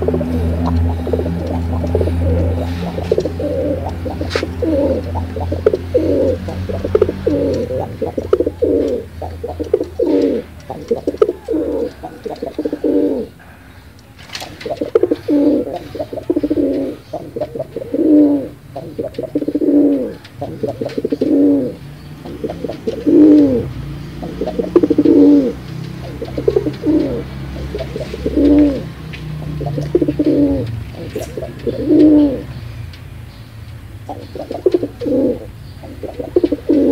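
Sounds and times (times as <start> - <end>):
pigeon cooing: 0.0 - 32.8, 34.0 - 36.9.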